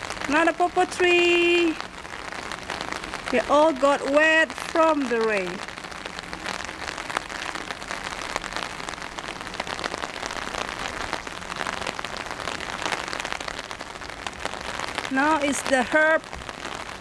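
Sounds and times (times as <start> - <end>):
raindrops hitting close by: 0.0 - 17.0
steady rain falling: 0.0 - 17.0.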